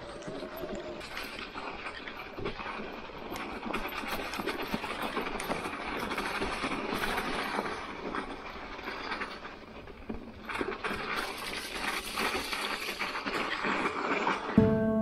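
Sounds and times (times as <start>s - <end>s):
bike rattling: 0.0s - 14.6s
bike tyres crunching snow: 0.0s - 15.0s.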